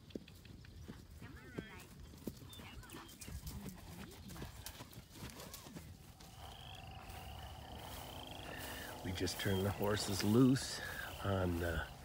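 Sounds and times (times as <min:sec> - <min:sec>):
horse hooves trotting on grass: 0:00.0 - 0:12.0.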